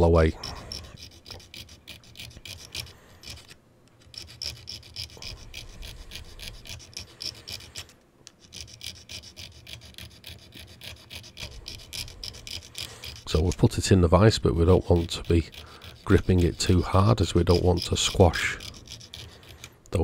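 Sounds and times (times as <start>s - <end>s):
hand file rasping on metal: 0.0s - 20.0s.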